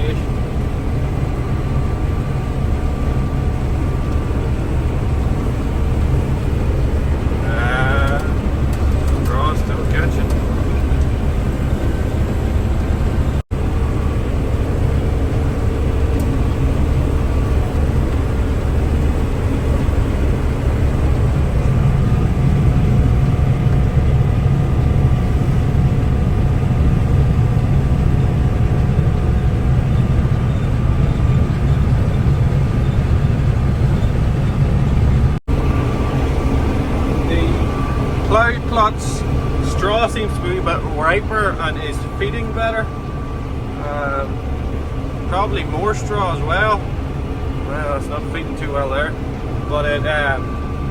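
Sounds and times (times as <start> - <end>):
combine harvester drone: 0.0 - 50.9
faint steady whine: 0.0 - 50.9.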